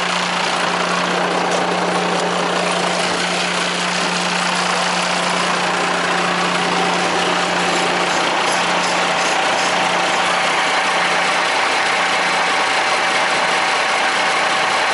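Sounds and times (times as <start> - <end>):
low hum: 0.0 - 14.6
vacuum truck running: 0.0 - 14.9.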